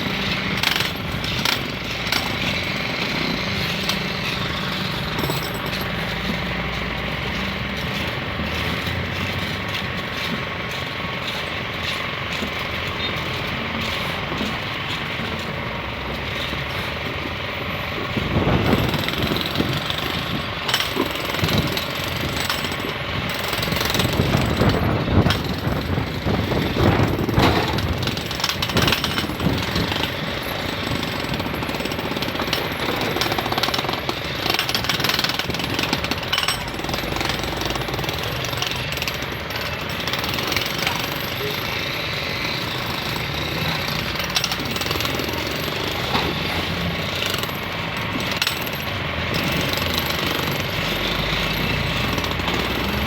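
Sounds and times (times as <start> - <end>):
jackhammer-like hammering: 0.0 - 53.0.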